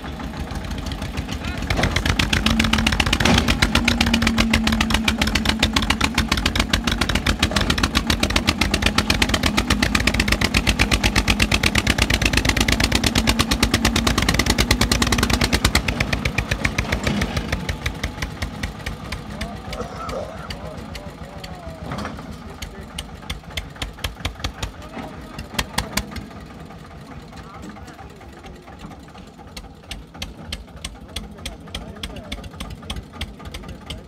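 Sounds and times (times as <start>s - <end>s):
tractor diesel engine labouring: 0.0s - 34.0s.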